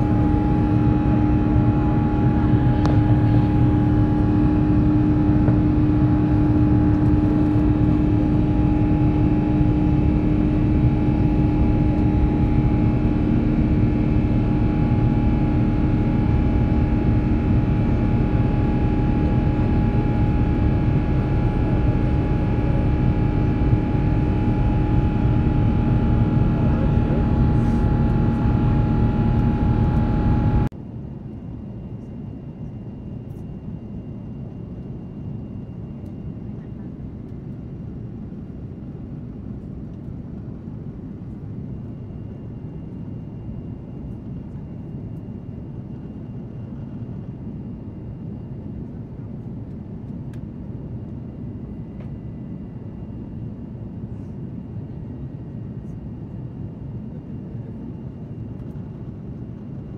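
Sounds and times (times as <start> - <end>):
constant low hum: 0.0 - 59.9
jet engine rush in cabin: 0.0 - 59.9.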